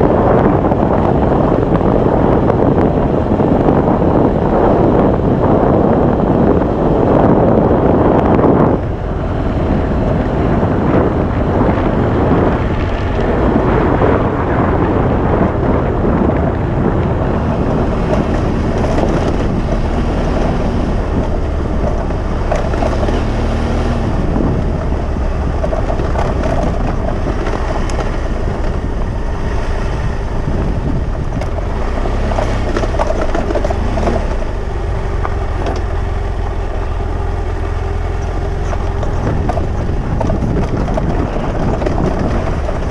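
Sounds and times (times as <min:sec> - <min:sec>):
motorcycle engine running: 0:00.0 - 0:42.9
wind on microphone: 0:00.0 - 0:42.9.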